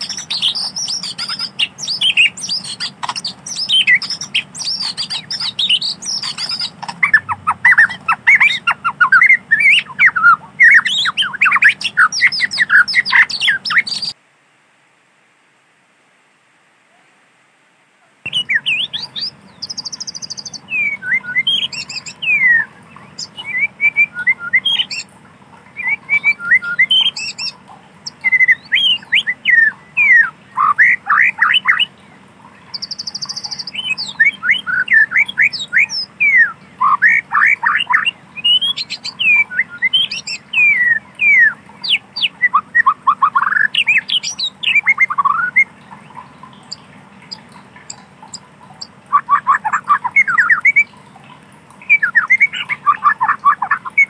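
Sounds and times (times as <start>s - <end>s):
bird singing whistled song: 0.0s - 14.2s, 18.3s - 25.1s, 25.7s - 32.1s, 32.7s - 51.0s, 51.8s - 54.0s.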